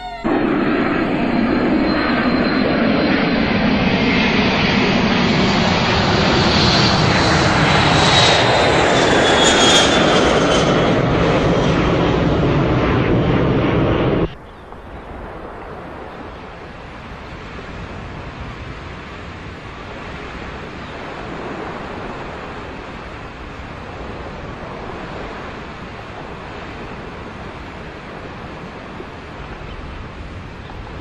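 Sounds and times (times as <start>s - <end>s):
airplane engines rushing and whining: 0.0s - 31.0s.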